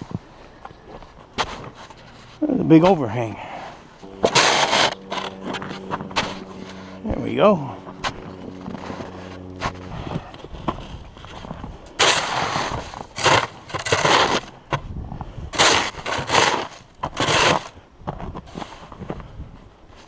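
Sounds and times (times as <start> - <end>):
snow shovel scraping snow: 1.4 - 14.7, 15.5 - 17.8, 18.4 - 19.1.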